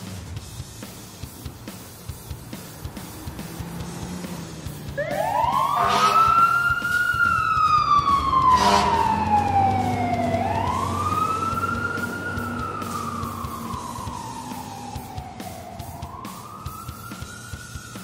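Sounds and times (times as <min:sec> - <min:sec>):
emergency siren wailing: 0:02.9 - 0:18.0.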